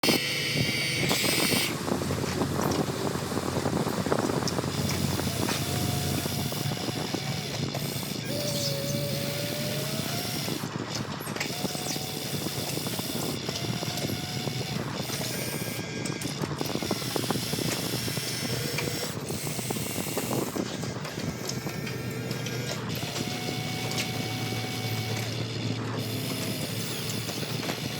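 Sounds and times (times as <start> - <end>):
toy excavator motor humming: 0.0 - 27.9
small clicks and scrapes: 4.3 - 27.9.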